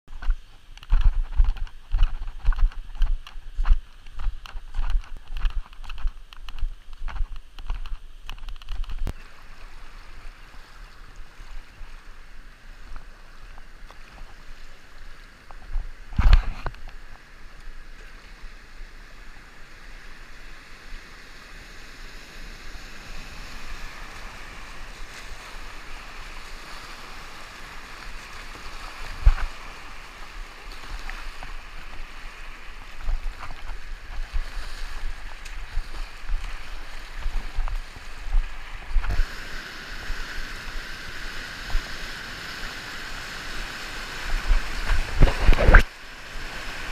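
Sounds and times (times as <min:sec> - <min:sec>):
floodwater rushing: 0:08.8 - 0:20.8, 0:21.4 - 0:46.9.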